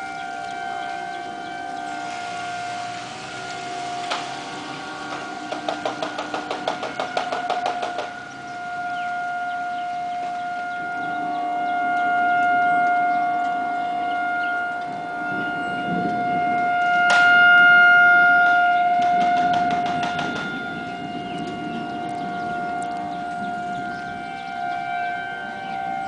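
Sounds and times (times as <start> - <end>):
warning sirens: 0.0 - 26.0.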